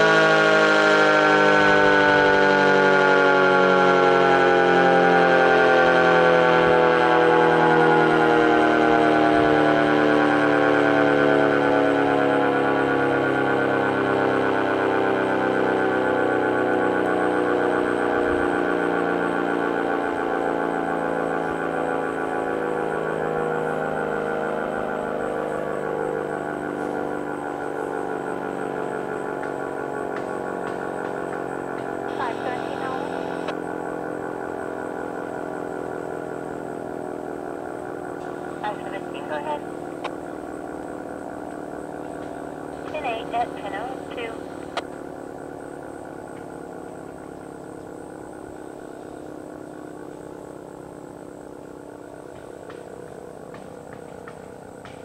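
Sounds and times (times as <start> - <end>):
storm siren steady tone: 0.0 - 55.0.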